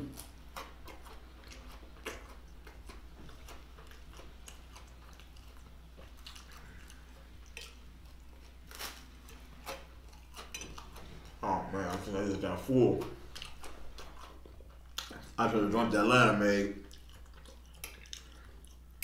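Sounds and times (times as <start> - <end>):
person crunching a cracker: 0.0 - 15.3, 16.8 - 19.0
steady low hum: 0.0 - 19.0.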